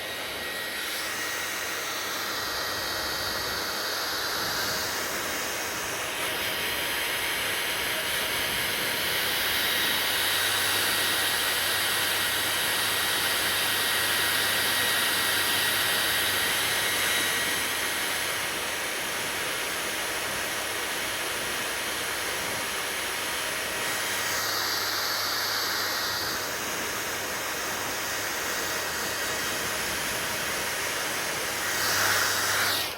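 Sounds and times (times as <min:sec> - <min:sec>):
hair dryer blowing: 0:00.0 - 0:32.9.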